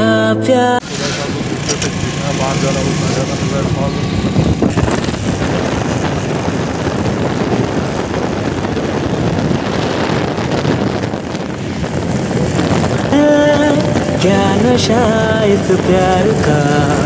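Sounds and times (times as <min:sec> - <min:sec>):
motorcycle engine: 0:00.8 - 0:17.0
road noise: 0:00.8 - 0:17.0
wind rush on microphone: 0:00.8 - 0:17.0.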